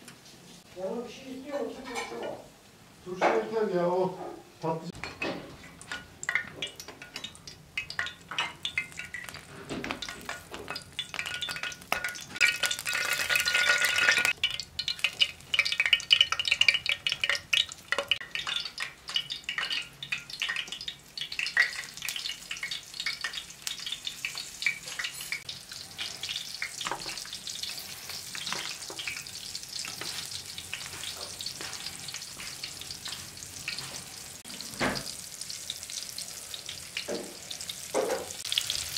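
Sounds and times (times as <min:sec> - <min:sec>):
oil sizzling in a pan: 0:04.9 - 0:38.9
wood stove crackling: 0:04.9 - 0:38.9.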